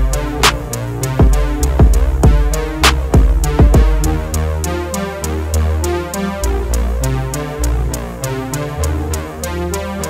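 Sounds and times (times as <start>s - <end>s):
electronic hip-hop beat: 0.0s - 10.0s.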